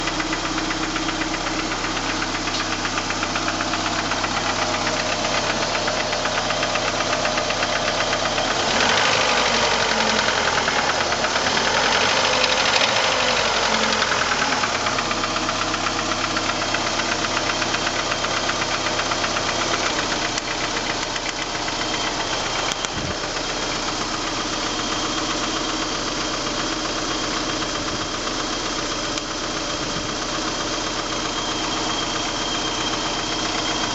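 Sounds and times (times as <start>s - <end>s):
car engine idling and revving: 0.0s - 33.9s
engine knocking: 0.0s - 33.9s.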